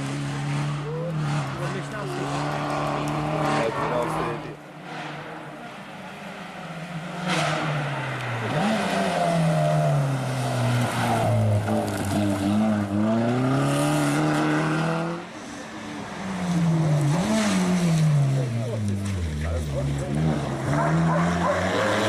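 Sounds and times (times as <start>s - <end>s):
rally car engine revving hard: 0.0s - 22.0s.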